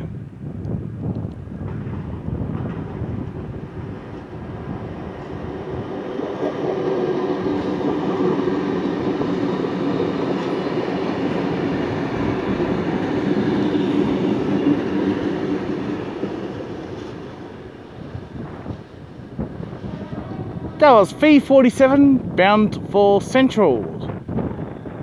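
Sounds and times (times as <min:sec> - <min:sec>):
electric train passing: 0:01.0 - 0:25.0.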